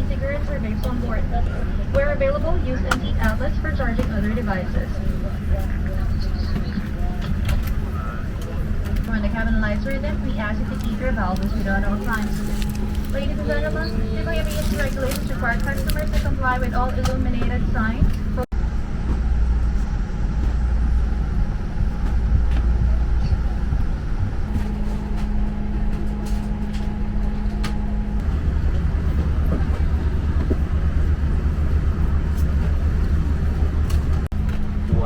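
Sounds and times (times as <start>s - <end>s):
cabin ventilation hum: 0.0s - 35.0s.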